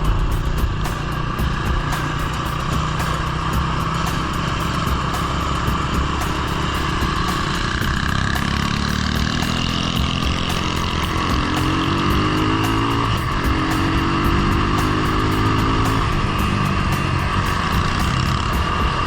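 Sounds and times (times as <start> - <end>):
small engine running and revving: 0.0 - 19.0.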